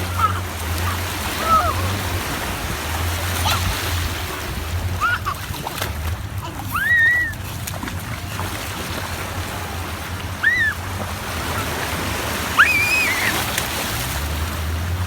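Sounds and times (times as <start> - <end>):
sea surf washing: 0.0 - 15.0.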